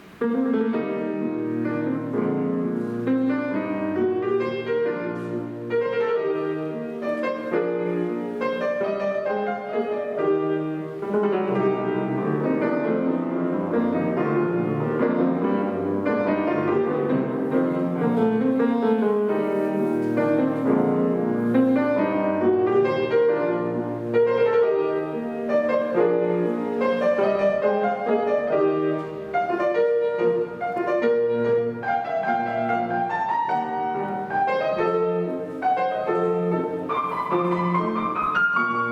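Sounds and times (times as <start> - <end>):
solo classical piano: 0.0 - 38.9.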